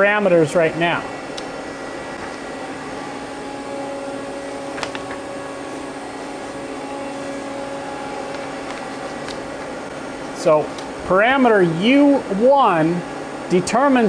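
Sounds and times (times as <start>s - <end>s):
lathe humming: 0.0s - 14.0s.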